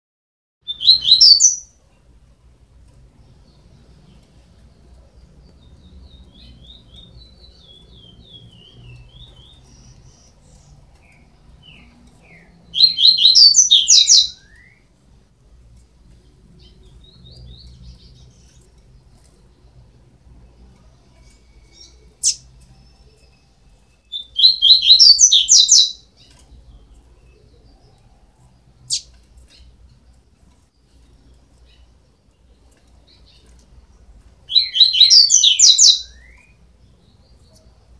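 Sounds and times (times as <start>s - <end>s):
bird chicks chirping: 0.6s - 2.1s, 2.9s - 15.0s, 16.0s - 37.9s.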